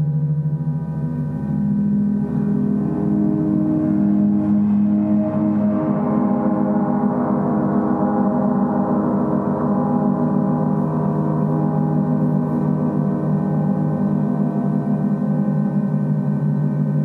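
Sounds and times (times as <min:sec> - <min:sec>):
gongs ringing: 0:01.4 - 0:15.9.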